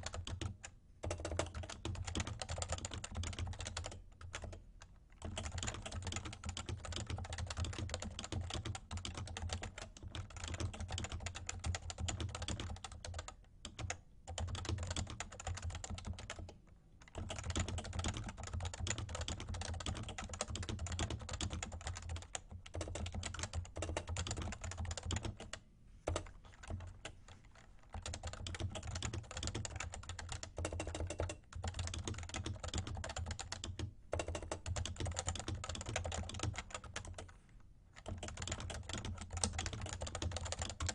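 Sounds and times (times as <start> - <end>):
keyboard typing: 0.0 - 37.4, 38.0 - 40.9.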